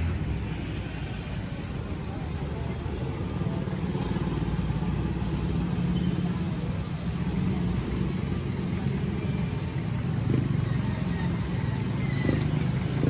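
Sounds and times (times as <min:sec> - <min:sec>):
car and motorcycle engines: 0:00.0 - 0:13.0.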